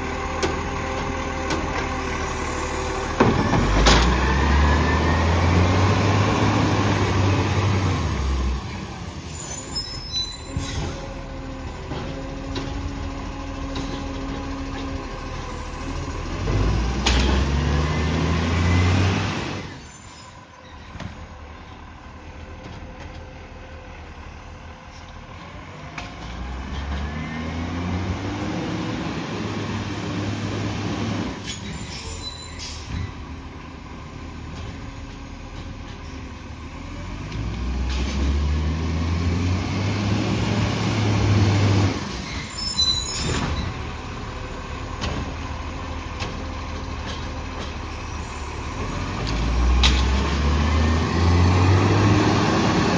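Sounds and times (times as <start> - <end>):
garbage truck engine revving: 0.0 - 19.9, 25.3 - 52.9.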